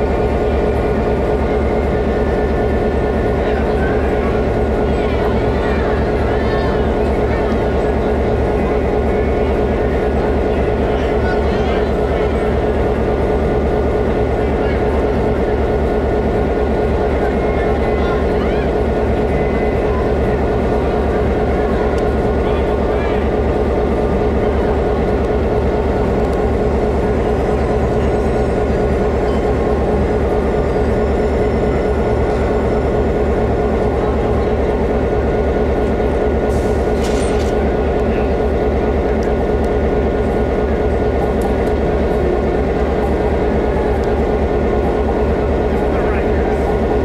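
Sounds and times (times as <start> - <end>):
train engine rumbling: 0.0 - 47.0.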